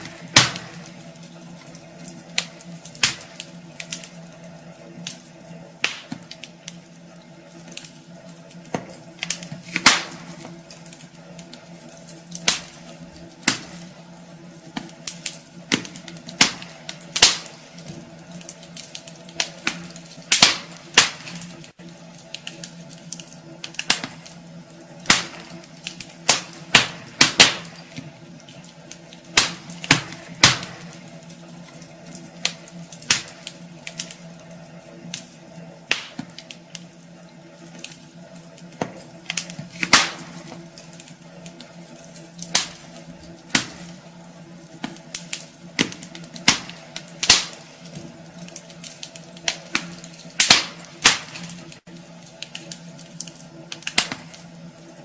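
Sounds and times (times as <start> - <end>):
faint steady hiss and hum: 0.0 - 55.0
wood fire crackling: 0.0 - 55.0.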